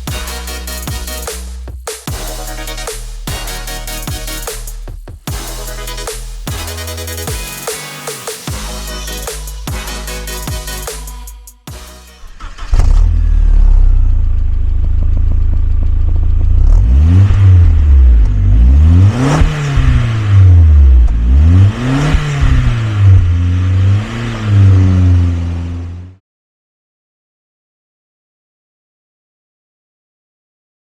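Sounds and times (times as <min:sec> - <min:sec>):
car engine idling and revving: 0:00.0 - 0:11.4, 0:12.2 - 0:26.2.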